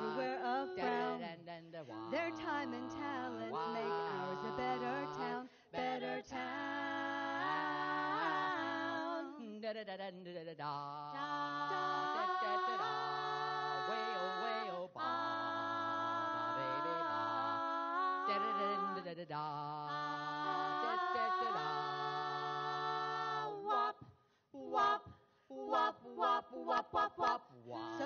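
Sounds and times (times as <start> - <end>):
women singing a cappella harmony: 0.0 - 28.0.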